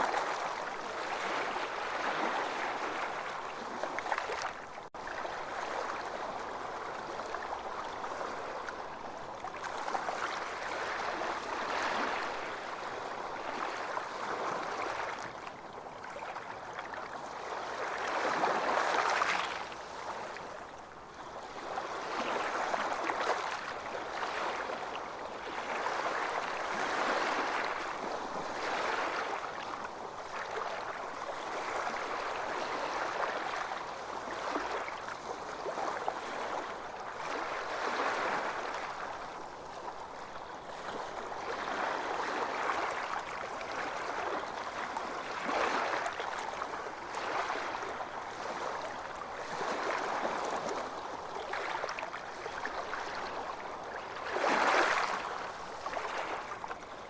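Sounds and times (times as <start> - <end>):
waves breaking on a beach: 0.0 - 57.0.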